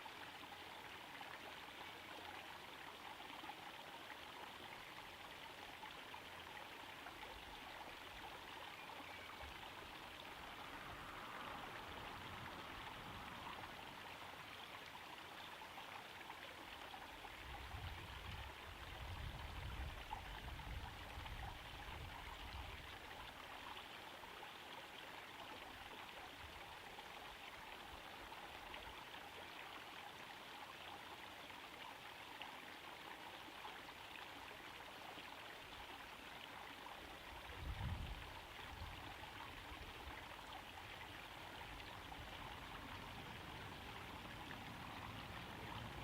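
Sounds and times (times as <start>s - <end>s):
waterfall trickling into pond: 0.0s - 46.0s.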